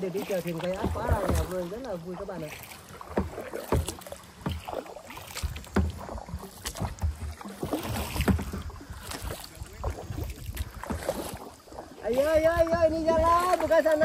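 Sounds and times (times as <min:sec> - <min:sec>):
paddle dipping into water: 0:00.0 - 0:14.0
water splashing and dripping: 0:00.0 - 0:14.0.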